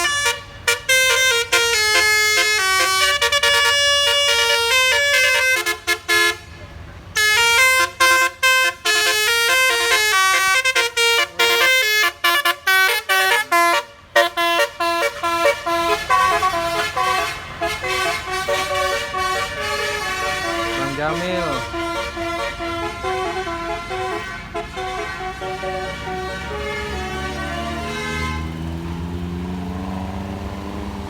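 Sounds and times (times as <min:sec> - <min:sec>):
bus air horn playing a tune: 0:00.0 - 0:28.9.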